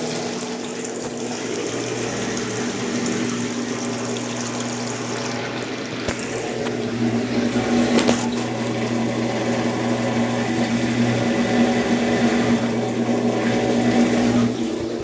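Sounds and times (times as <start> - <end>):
washing machine motor hum: 0.0 - 15.0
water sloshing in washing machine: 0.0 - 15.0.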